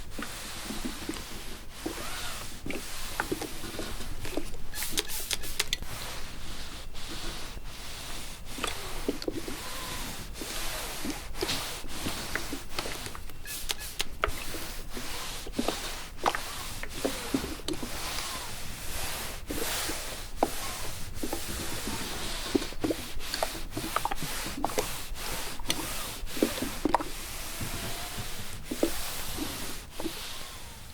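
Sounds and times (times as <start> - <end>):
iron swishing over fabric: 0.0 - 30.9.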